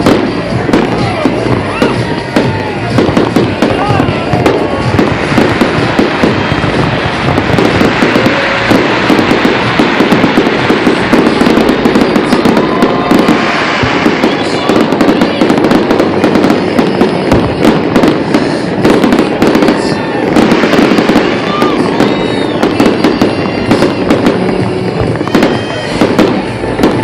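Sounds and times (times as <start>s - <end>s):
fireworks banging and crackling: 0.0s - 27.0s.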